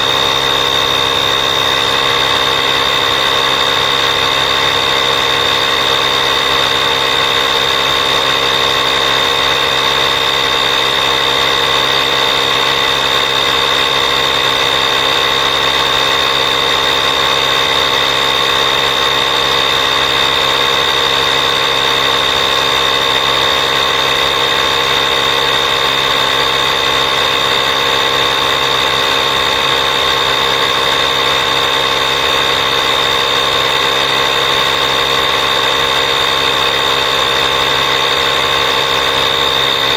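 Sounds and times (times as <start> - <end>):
high whine: 0.0 - 39.9
small motor drone: 0.0 - 39.9.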